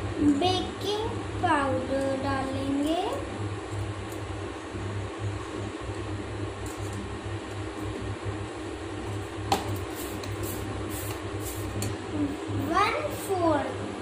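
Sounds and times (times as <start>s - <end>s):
low mechanical room hum: 0.0s - 14.0s.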